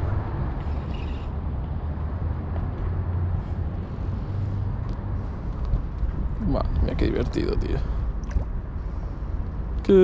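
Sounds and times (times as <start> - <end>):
low outdoor background rumble: 0.0 - 10.0.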